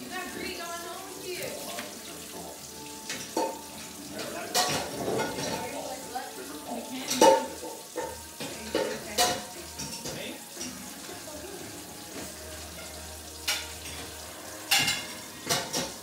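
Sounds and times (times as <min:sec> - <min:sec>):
dishes and utensils clinking: 0:01.2 - 0:16.0.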